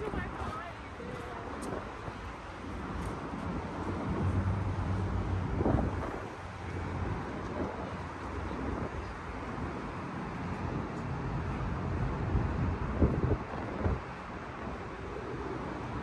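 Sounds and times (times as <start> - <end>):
road traffic rumbling: 0.0 - 16.0.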